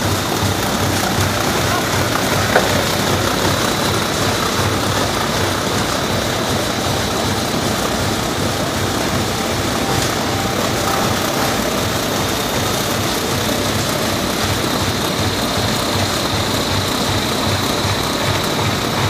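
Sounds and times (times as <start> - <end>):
die cutter running: 0.0 - 19.0.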